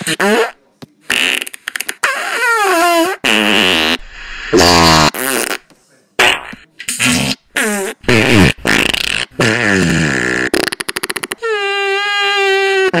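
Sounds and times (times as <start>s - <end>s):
fart noises: 0.0s - 13.0s.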